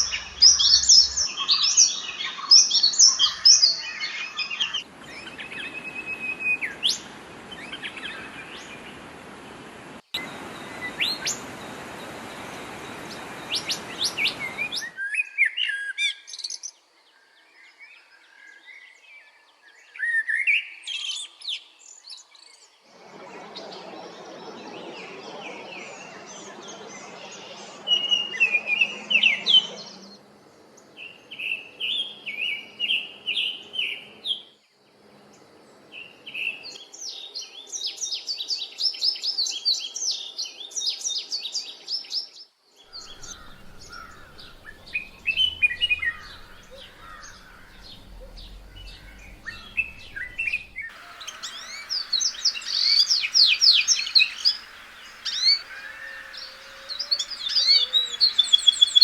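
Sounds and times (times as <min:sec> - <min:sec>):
songbirds singing: 0:00.0 - 0:21.2, 0:21.8 - 0:59.0.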